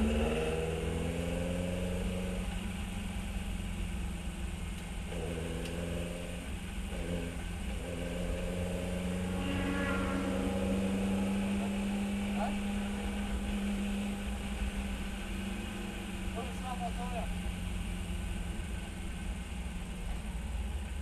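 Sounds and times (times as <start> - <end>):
race car engine running: 0.0 - 21.0.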